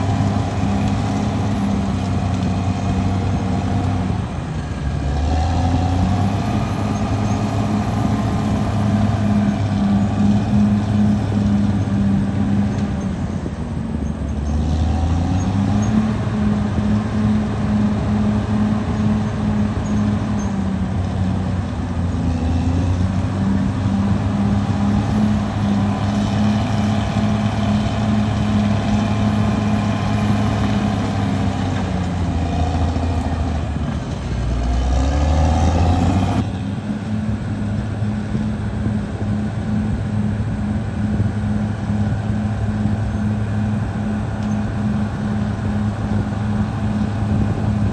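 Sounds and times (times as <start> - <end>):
bulldozer diesel engine revving: 0.0 - 47.9.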